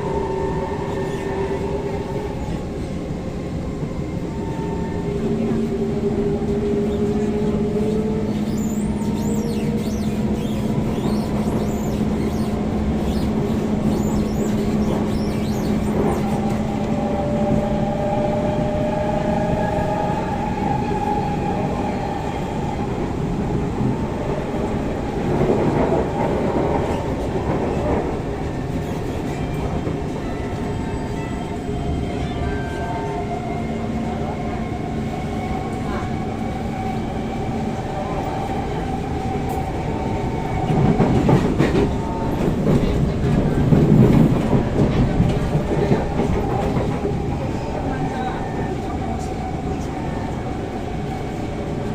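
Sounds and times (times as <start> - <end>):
wheel and rail rumble: 0.0 - 51.9.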